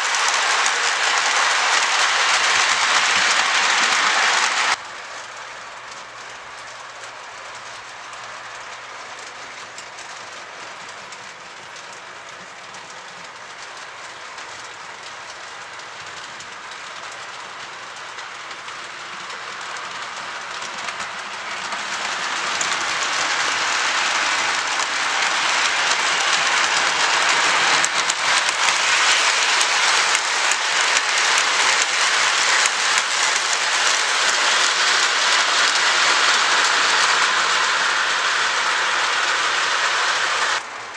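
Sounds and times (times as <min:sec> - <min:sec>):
model train wheels clicking on rails: 0:00.0 - 0:40.9.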